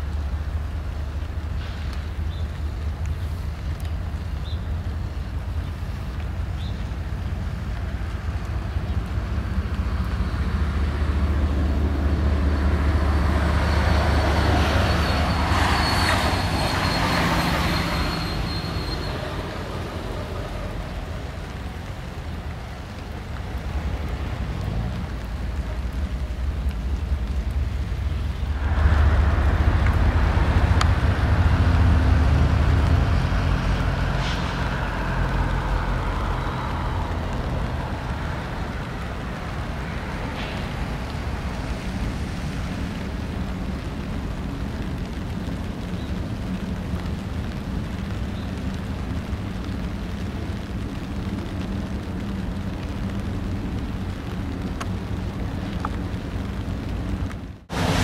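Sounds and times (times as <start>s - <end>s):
low traffic rumble: 0.0s - 58.0s.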